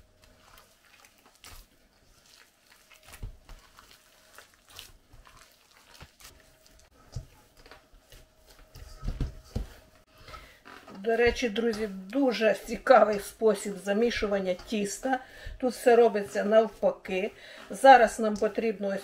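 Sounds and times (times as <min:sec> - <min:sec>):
dough squishing: 0:00.0 - 0:19.0.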